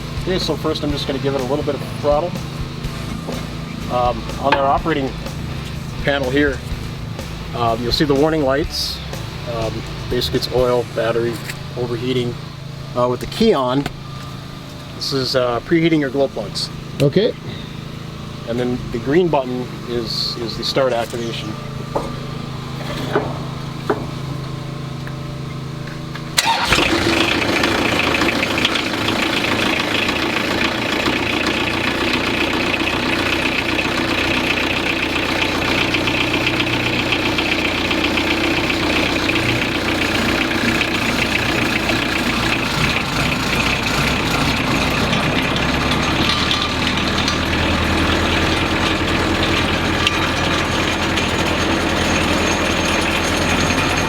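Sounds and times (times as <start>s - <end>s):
diesel engine starting and running: 0.0s - 54.0s.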